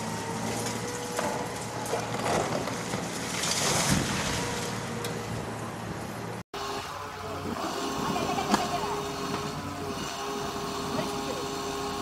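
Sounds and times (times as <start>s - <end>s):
excavator engine humming: 0.0s - 12.0s.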